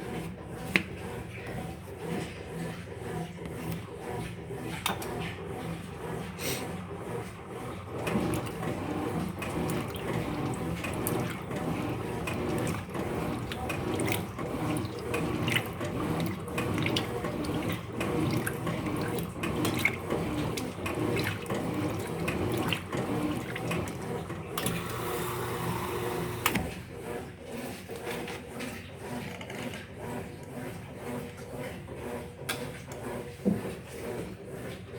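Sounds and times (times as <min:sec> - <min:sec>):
washing machine water churning: 0:00.0 - 0:34.9.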